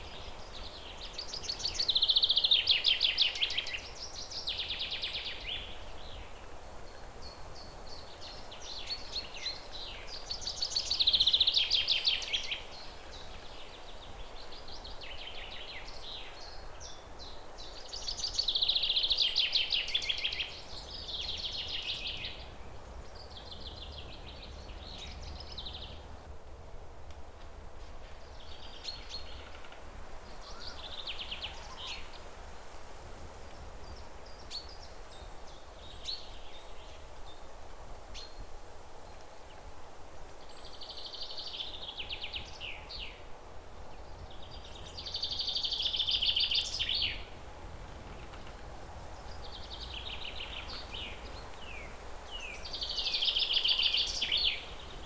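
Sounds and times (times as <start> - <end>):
songbirds singing trills: 0.0 - 26.2, 28.1 - 32.3, 33.5 - 38.5, 40.2 - 55.0
low background noise: 0.0 - 55.0.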